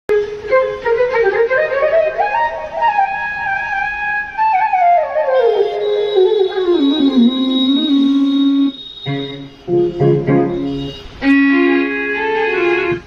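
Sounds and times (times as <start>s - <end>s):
keyboard flute melody: 0.1s - 13.0s.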